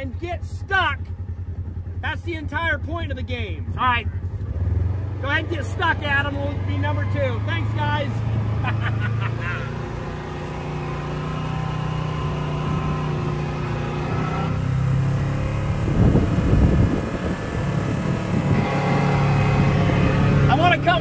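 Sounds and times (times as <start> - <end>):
off-road vehicle engines: 0.0 - 21.0.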